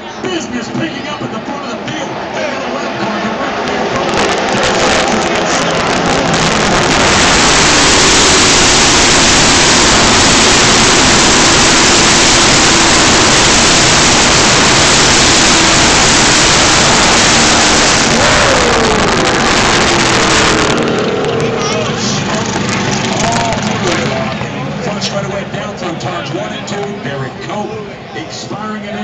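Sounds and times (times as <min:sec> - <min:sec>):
race cars passing at speed: 0:00.0 - 0:28.8.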